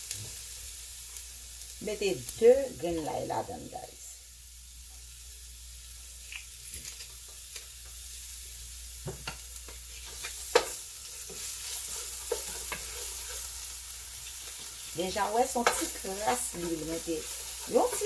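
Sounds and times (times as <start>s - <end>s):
garlic sizzling in hot oil: 0.0s - 18.0s.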